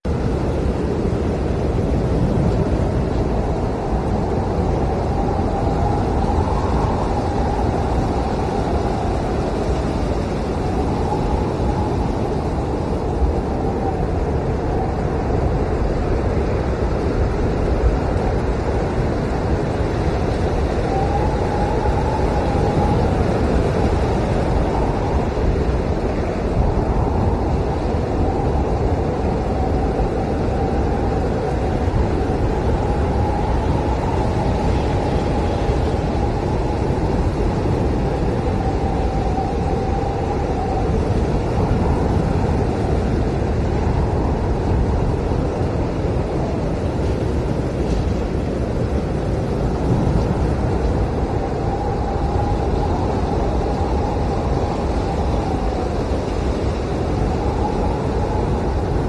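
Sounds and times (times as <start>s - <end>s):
blizzard wind howling: 0.0s - 59.0s.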